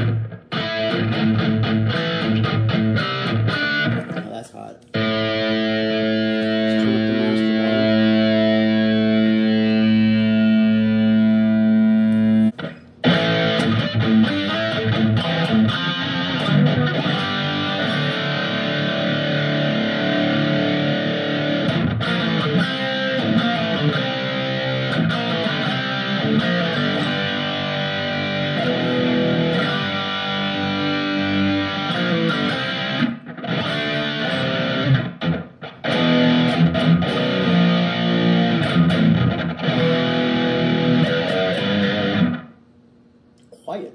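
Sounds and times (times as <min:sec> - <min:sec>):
distorted electric guitar: 0:00.0 - 0:42.6.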